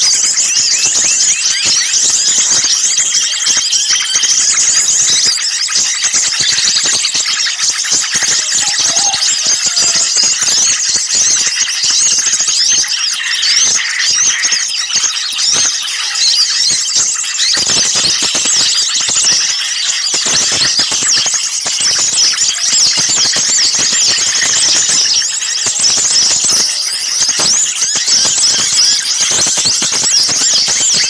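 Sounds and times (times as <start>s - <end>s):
small songbirds chirping: 0.0s - 31.0s.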